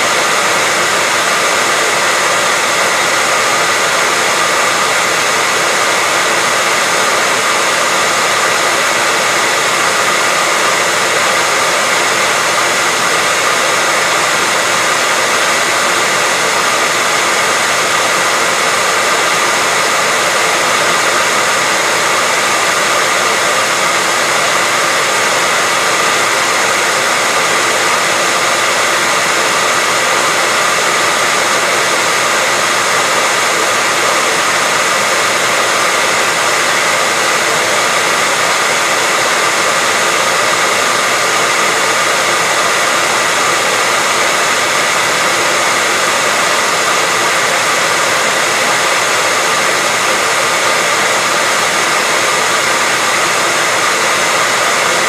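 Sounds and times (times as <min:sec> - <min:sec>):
hairdryer running: 0:00.0 - 0:55.0.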